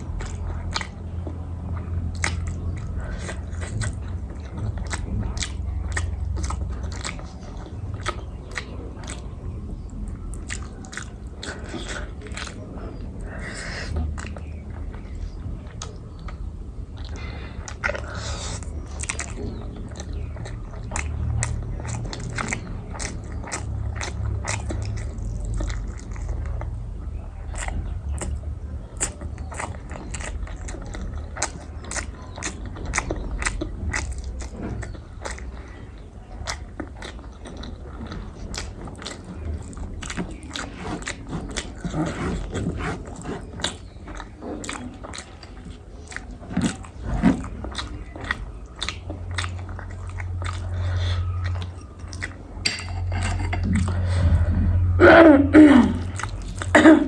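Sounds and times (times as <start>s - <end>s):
food crunching: 0.0s - 57.0s
person chewing food: 0.0s - 57.0s.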